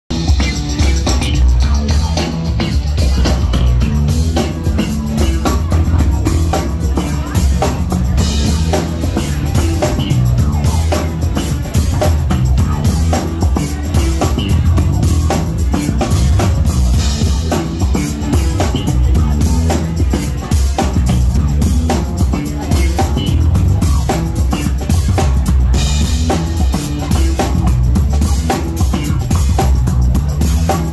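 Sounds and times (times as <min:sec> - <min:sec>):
drum kit beat: 0:00.1 - 0:30.9
electric bass line: 0:00.1 - 0:30.9
live band playing: 0:00.1 - 0:30.9.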